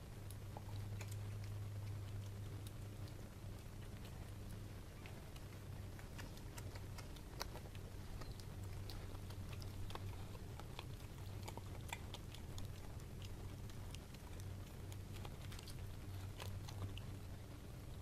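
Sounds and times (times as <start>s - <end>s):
dog gnawing a bone: 0.0s - 18.0s.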